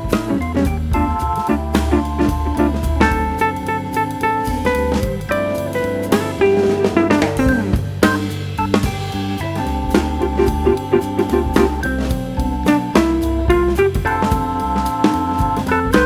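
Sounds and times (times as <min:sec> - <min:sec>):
jazzy guitar and drums music: 0:00.0 - 0:16.0.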